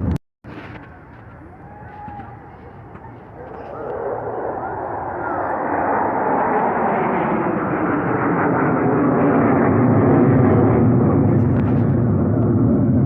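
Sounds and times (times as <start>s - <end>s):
jet aircraft roaring past: 0.5s - 13.0s.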